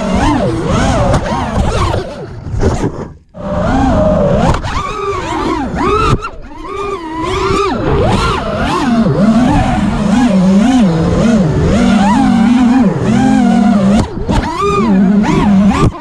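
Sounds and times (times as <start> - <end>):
quadcopter motors whining: 0.0 - 2.4, 3.4 - 16.0.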